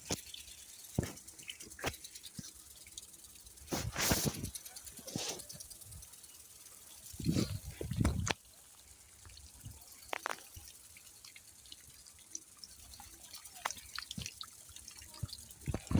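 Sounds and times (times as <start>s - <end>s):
faint hiss: 0.0s - 15.9s
water dripping onto crop: 0.0s - 15.9s.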